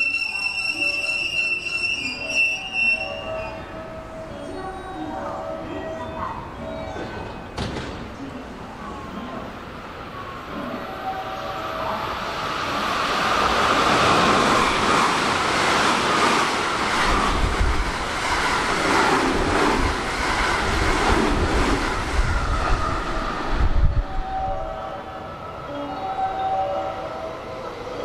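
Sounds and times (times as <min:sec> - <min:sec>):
electric train passing close: 0:00.0 - 0:28.0.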